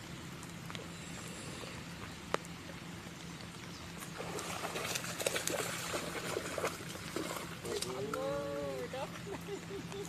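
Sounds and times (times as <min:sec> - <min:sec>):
rain falling on water: 0:00.0 - 0:10.0.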